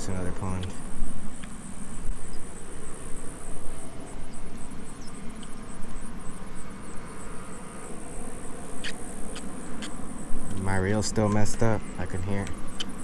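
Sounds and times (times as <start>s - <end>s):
insects trilling: 0.0s - 13.0s
pulsing insect chirp: 0.0s - 13.0s.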